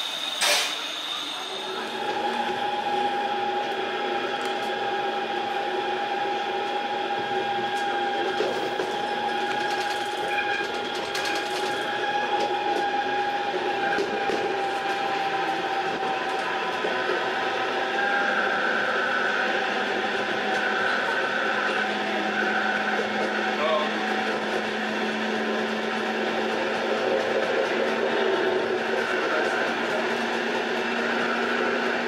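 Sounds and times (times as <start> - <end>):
train cab running hum: 0.0 - 32.0.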